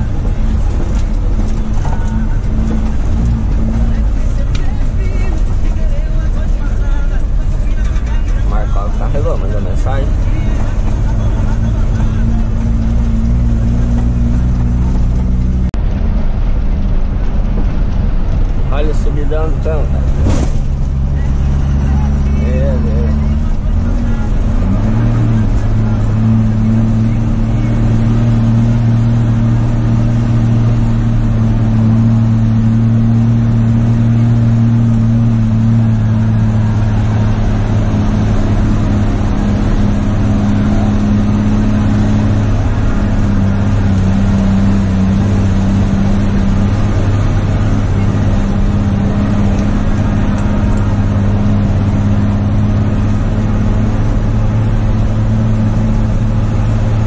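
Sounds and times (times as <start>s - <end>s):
truck diesel engine running: 0.0s - 57.0s
tyre road noise on dirt road: 0.0s - 57.0s.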